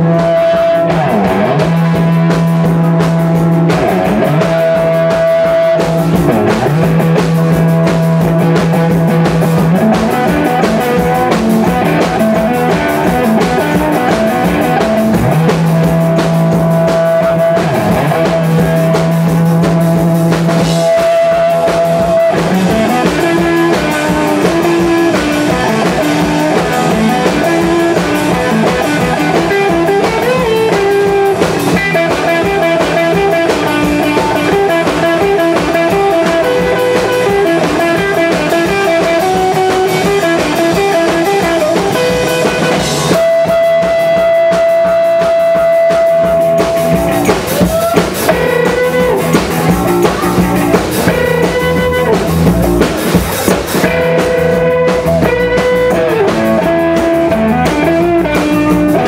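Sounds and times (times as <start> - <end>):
drum kit: 0.0 - 59.0
electric guitars: 0.0 - 59.0
live rock band playing: 0.0 - 59.0.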